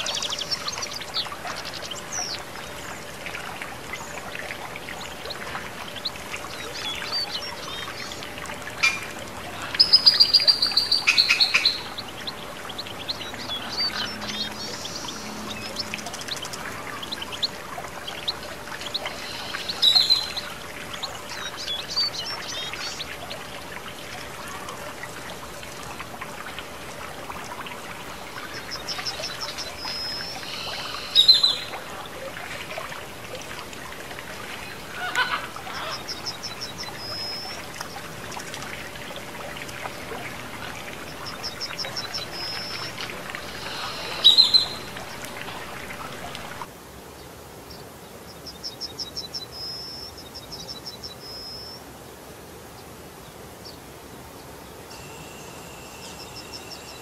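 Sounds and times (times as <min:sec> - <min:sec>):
small bird song: 0:00.0 - 0:32.8, 0:34.4 - 0:51.9, 0:52.7 - 0:57.0
water trickling in fountain: 0:00.0 - 0:51.9, 0:54.4 - 0:57.0.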